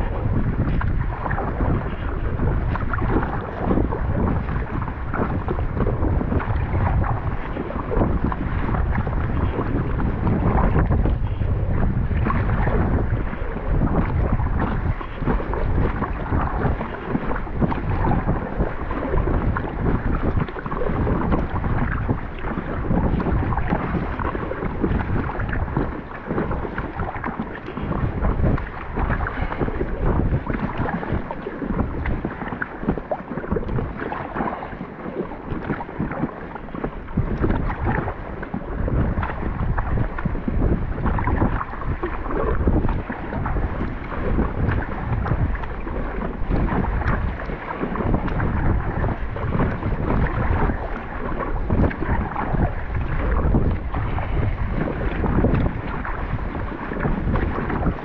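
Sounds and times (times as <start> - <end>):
water splashing against kayak: 0.0 - 58.0
wind buffeting microphone: 0.0 - 58.0.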